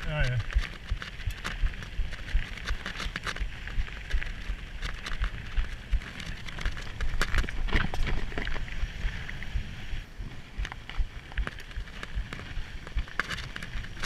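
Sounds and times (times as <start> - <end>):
bike knocks and rattles: 0.0 - 8.7, 10.6 - 14.0
bike tyres crunching on dirt: 0.0 - 14.0
wind buffeting microphone: 0.0 - 14.0.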